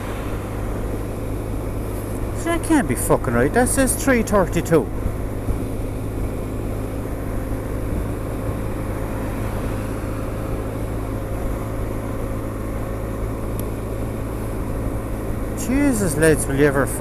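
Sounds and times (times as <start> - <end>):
scooter engine running: 0.0 - 17.0
wind and road noise: 0.0 - 17.0.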